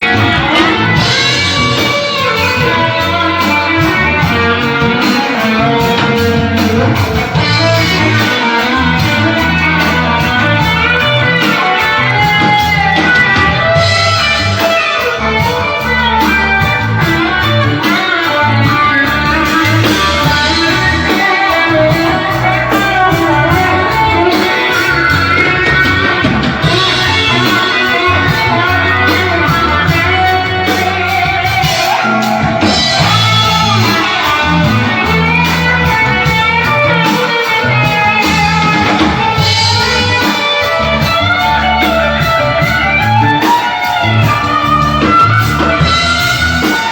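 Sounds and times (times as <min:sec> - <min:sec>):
overdriven electric guitar: 0:00.0 - 0:46.9.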